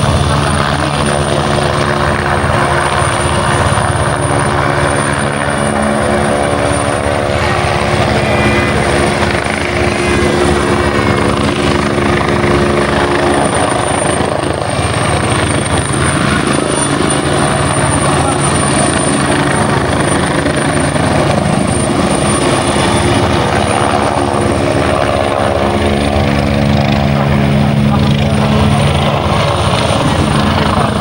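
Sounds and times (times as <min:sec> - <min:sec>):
helicopter hovering: 0:00.0 - 0:31.0.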